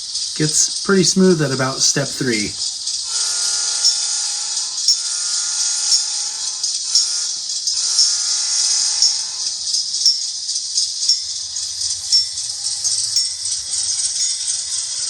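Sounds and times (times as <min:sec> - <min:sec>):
model locomotive engine sound: 0:00.0 - 0:15.0
model locomotive bell ringing: 0:00.5 - 0:15.0.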